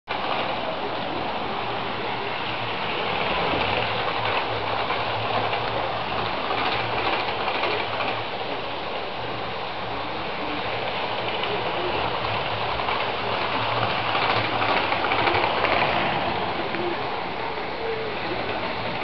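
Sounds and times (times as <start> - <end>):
model trains running on track: 0.1 - 19.0.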